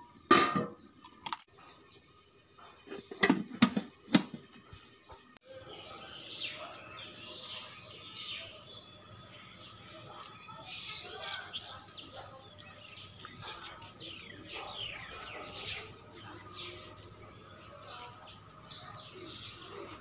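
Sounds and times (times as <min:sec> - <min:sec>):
birds chirping: 0:00.8 - 0:20.0.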